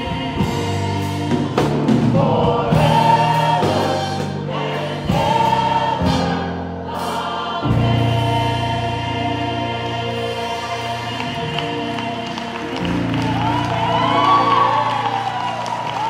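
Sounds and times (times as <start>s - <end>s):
gospel choir singing: 0.0s - 16.0s.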